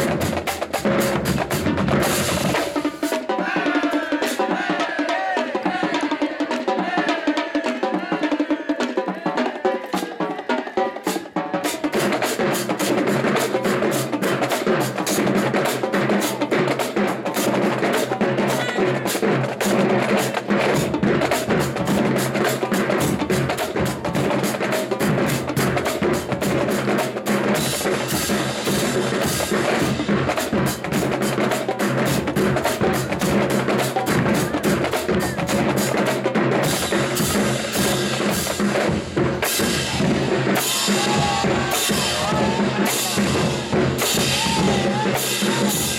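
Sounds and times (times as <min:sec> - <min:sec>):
drumline snare and bass drums: 0:00.0 - 0:45.9.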